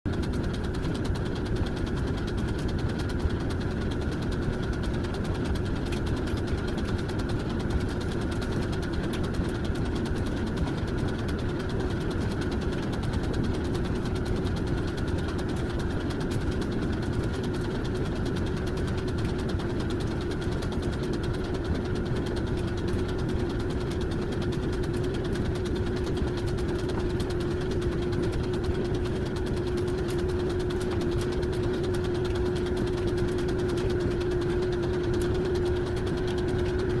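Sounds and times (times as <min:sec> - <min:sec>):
engine humming steadily: 0:00.1 - 0:37.0.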